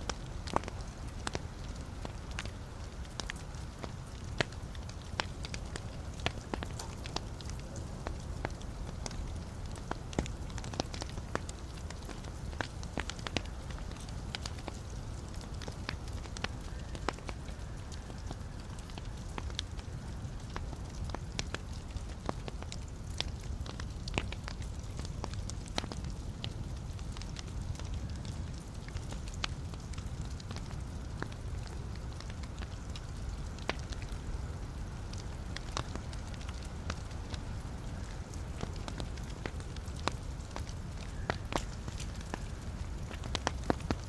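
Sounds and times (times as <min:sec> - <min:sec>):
burning logs crackling and popping: 0:00.0 - 0:44.0
low rumble of flames: 0:00.0 - 0:44.0.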